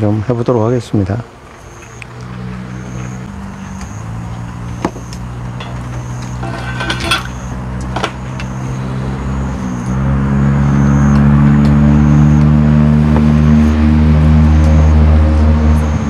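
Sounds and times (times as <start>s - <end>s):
vehicle engine running: 1.6s - 16.0s.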